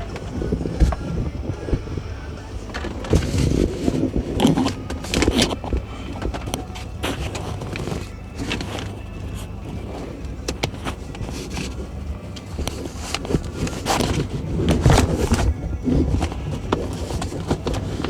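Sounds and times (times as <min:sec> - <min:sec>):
hands handling plastic parts: 0:00.0 - 0:18.0
steady low rumble: 0:00.0 - 0:18.0.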